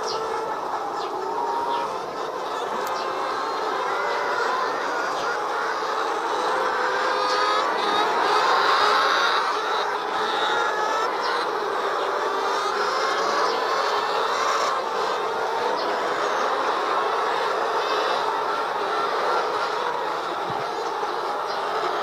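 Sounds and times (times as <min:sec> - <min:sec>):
hens clucking and cackling: 0:00.0 - 0:22.0.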